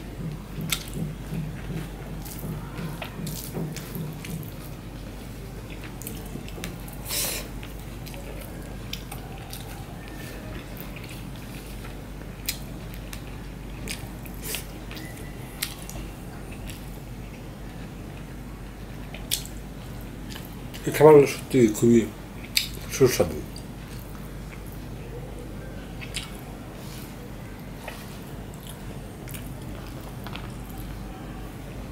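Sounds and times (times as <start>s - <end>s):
wet squishy chewing: 0.2s - 18.3s, 19.0s - 20.8s, 22.4s - 25.2s, 25.9s - 31.1s.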